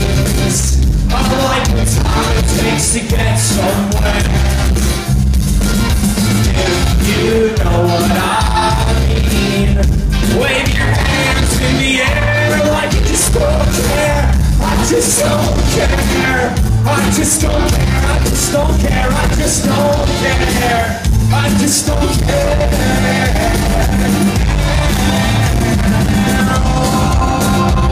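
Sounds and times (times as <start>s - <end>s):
lead vocals singing: 0.0s - 5.1s, 6.3s - 27.9s
live rock band playing: 0.0s - 27.9s.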